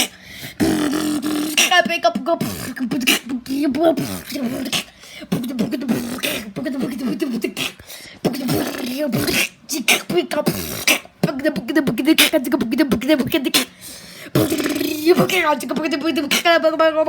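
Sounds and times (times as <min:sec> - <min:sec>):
person beatboxing: 0:00.0 - 0:16.7.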